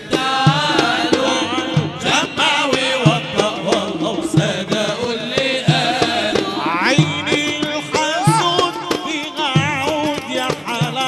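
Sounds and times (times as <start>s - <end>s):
voices chanting: 0.0s - 9.8s
frame drums beating: 0.0s - 11.0s.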